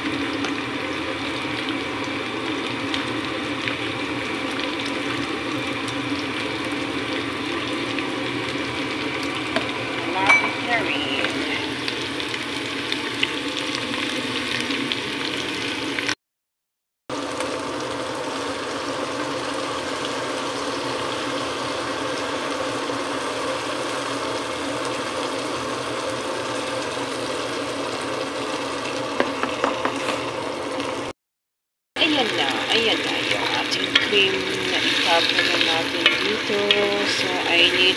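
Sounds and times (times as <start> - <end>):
food sizzling in a pan: 0.0 - 16.2, 17.1 - 31.1, 32.0 - 37.9.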